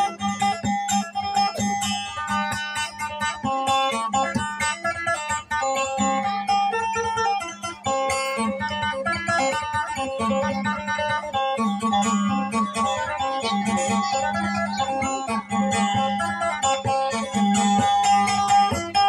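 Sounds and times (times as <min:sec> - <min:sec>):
acoustic guitar plucked: 0:00.0 - 0:19.0.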